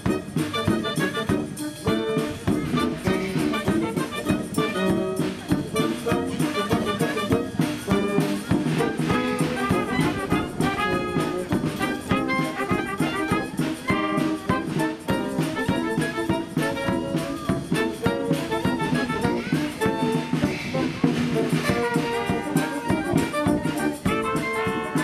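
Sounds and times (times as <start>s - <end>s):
wind band playing: 0.0s - 25.0s.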